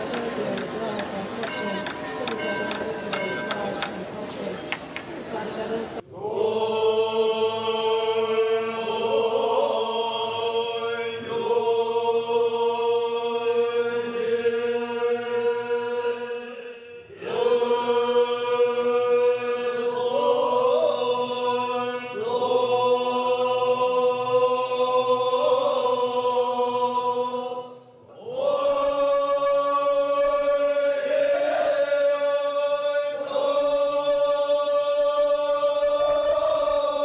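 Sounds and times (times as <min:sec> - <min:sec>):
monks chanting: 0:05.7 - 0:37.0.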